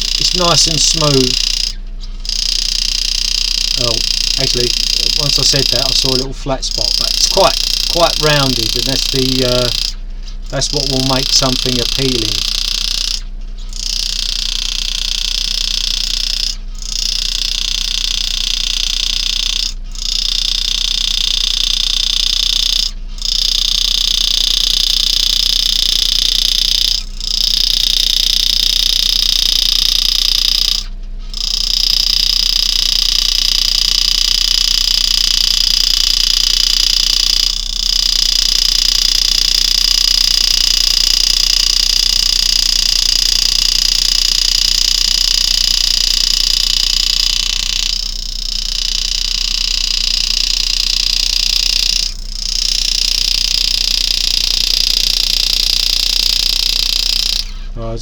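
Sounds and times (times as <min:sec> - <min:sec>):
engraving tool buzzing: 0:00.0 - 0:58.0.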